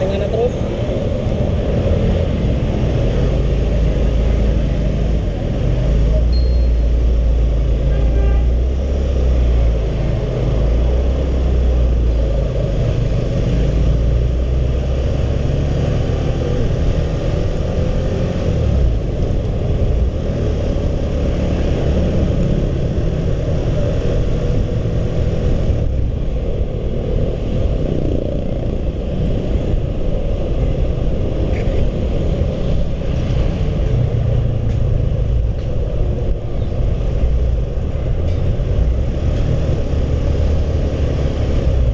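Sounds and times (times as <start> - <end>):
road and wind rumble: 0.0 - 41.9.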